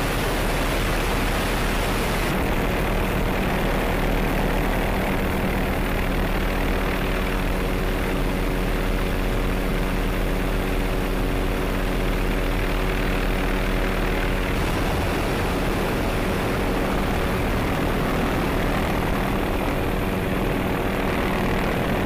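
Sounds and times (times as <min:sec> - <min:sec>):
helicopter engine and rotors: 0:00.0 - 0:22.0
hum of pitched tones: 0:01.8 - 0:22.0.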